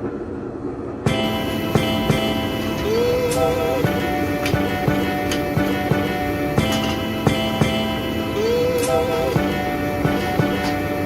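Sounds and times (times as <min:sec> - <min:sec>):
held chords over steady beat: 0:01.1 - 0:11.0
wavering melody line: 0:01.1 - 0:11.0.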